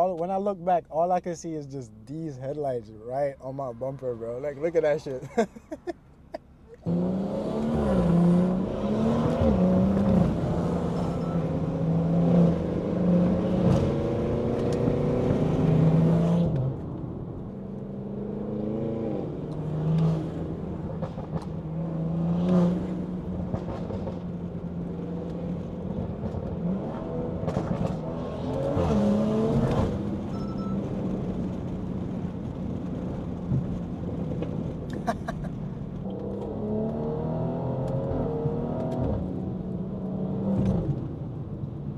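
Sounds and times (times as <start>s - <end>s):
car engine and loud exhaust: 0.0s - 41.9s.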